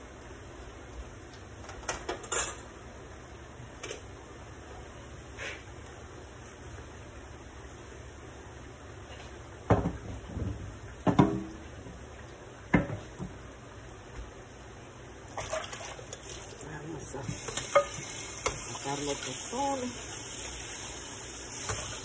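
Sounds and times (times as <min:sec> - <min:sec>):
plantain frying in oil: 0:00.0 - 0:22.0.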